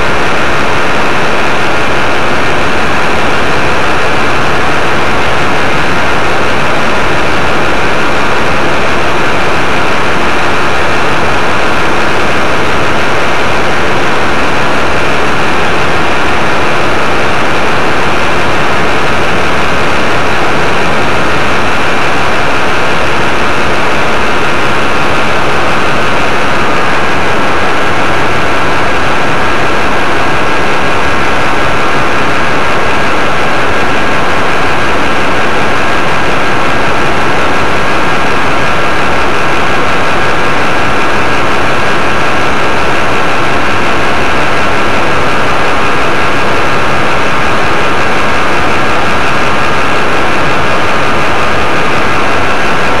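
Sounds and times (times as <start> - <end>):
paramotor engine and propeller: 0.0 - 53.0.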